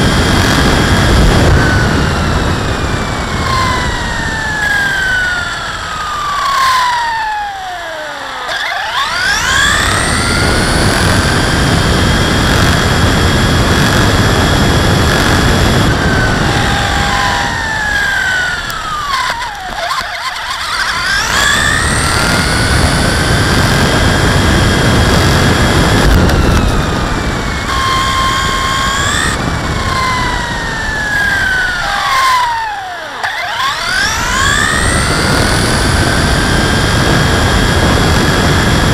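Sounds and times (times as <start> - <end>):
electric motor and gear whine: 0.0 - 38.9
rumble of tyres and wind: 0.0 - 38.9.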